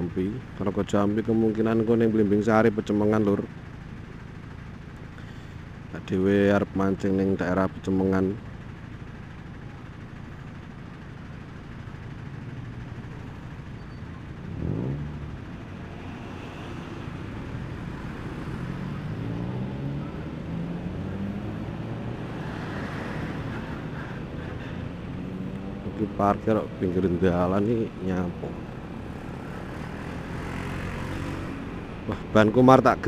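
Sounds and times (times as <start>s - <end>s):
road noise: 0.0s - 33.0s
motorbike engine running: 1.9s - 33.0s.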